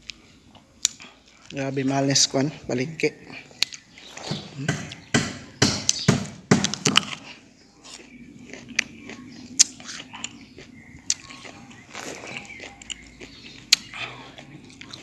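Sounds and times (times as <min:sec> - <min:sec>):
crunchy apple chewing: 0:00.0 - 0:05.1, 0:06.6 - 0:15.0.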